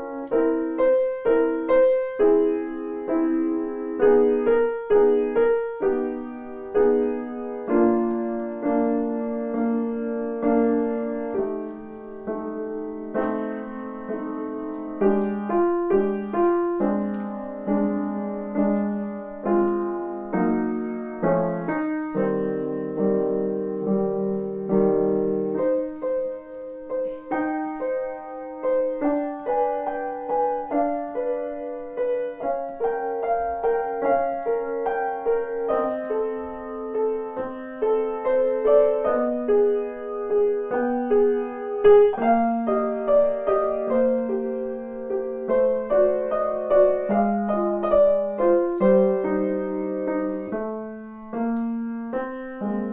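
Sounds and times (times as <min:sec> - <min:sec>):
solo piano: 0:00.0 - 0:52.9.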